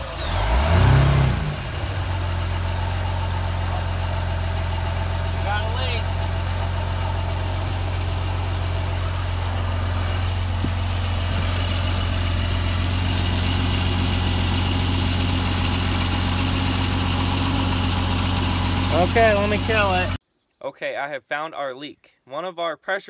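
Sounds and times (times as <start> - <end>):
boat engine idling: 0.0 - 20.2.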